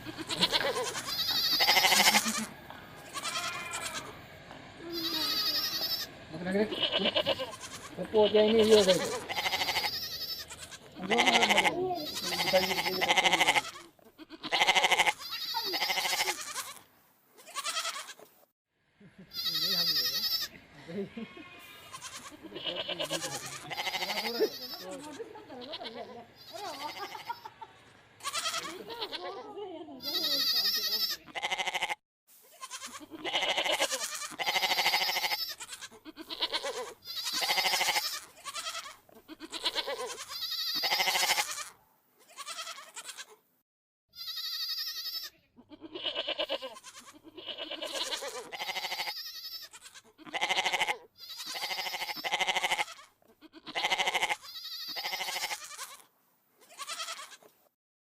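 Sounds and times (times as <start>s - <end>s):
sheep or goats bleating: 0.0s - 18.3s, 19.2s - 43.4s, 44.1s - 57.5s.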